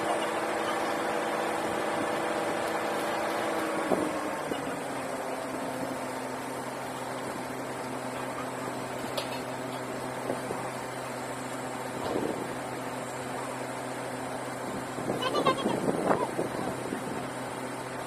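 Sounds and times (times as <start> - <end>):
drilling rig engine running: 0.0 - 18.0.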